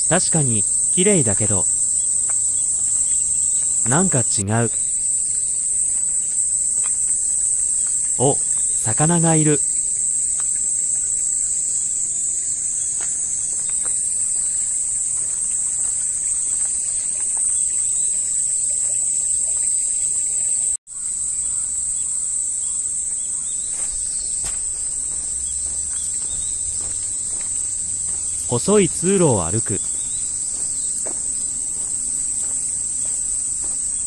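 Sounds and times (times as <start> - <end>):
insects shrilling: 0.0 - 34.0.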